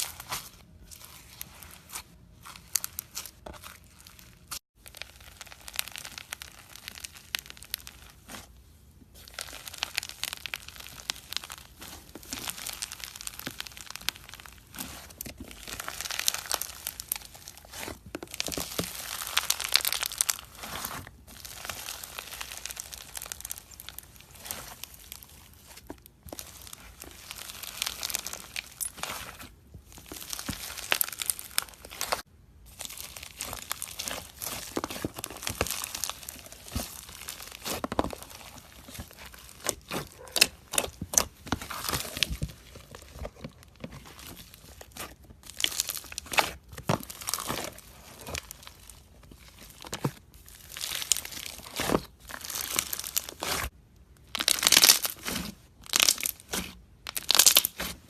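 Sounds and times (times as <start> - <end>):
slime crackling and clicking: 0.0 - 8.5, 9.2 - 58.0.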